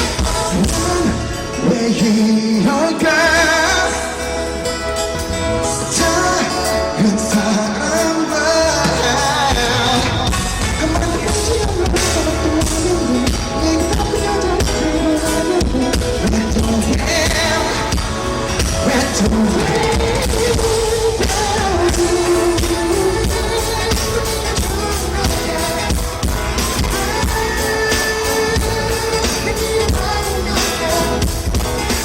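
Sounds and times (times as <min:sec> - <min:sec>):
band with steady drum beat: 0:00.0 - 0:02.7, 0:04.7 - 0:32.0
person singing: 0:00.0 - 0:04.5, 0:05.6 - 0:32.0.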